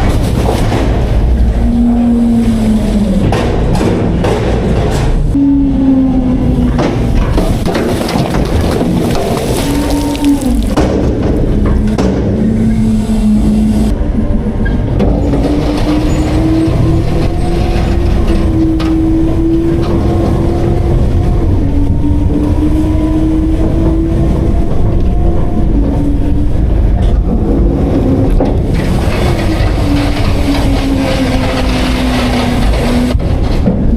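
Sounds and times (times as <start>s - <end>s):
garbage truck engine and hydraulics: 0.0s - 33.9s.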